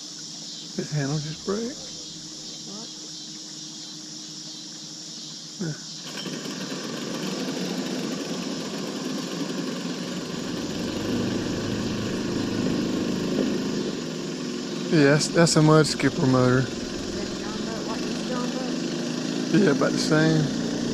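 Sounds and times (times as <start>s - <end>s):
crickets chirping: 0.0s - 20.9s
boat motor running roughly: 0.8s - 3.6s, 5.7s - 20.9s.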